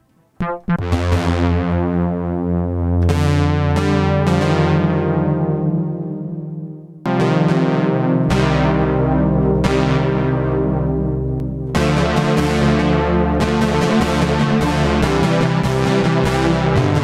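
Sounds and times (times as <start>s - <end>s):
synthesizer chords: 0.0s - 17.0s.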